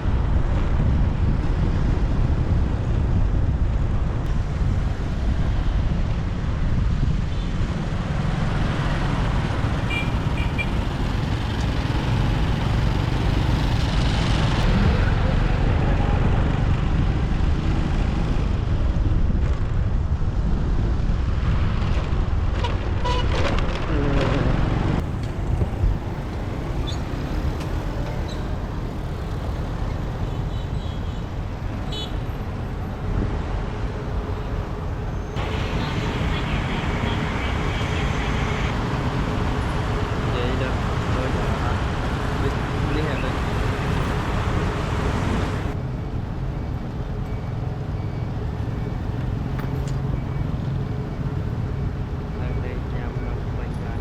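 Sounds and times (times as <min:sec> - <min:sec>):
motorbike engine and road noise: 0:00.0 - 0:54.0.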